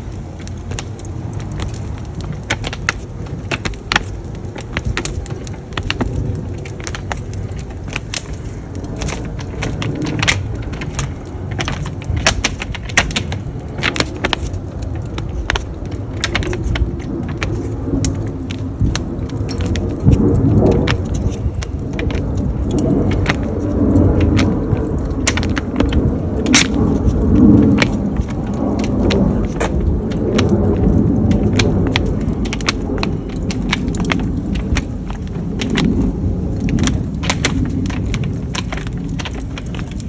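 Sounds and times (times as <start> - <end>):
fire crackling and popping: 0.0 - 40.0
low rumble: 0.0 - 40.0.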